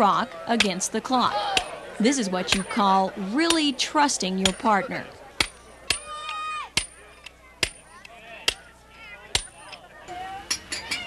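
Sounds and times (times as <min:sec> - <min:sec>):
voices calling out: 0:00.0 - 0:11.0.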